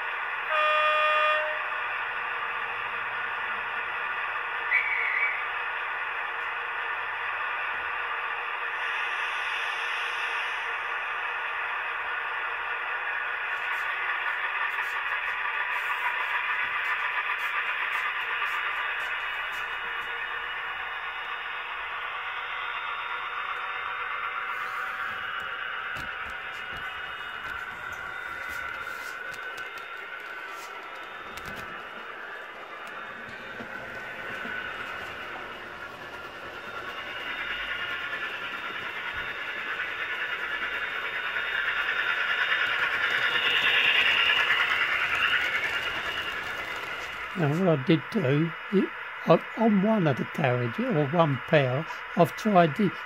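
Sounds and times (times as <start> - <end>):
model train whirring on rails: 0.0 - 53.0.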